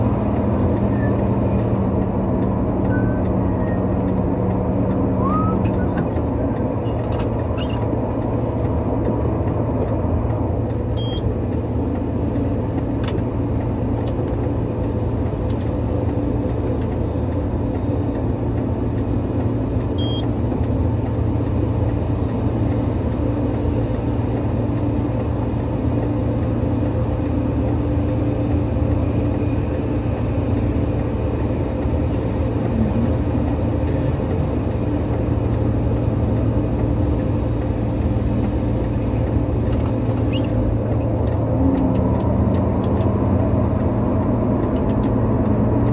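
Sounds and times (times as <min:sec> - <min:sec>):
diesel engine running steadily: 0:00.0 - 0:45.9.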